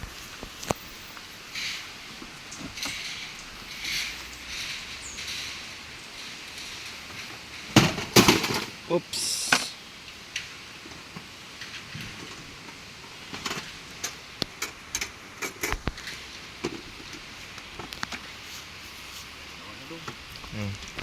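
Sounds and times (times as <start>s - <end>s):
raindrops tapping on surface: 0.0s - 8.8s, 9.6s - 18.4s, 20.0s - 21.0s
rain hiss: 0.0s - 21.0s.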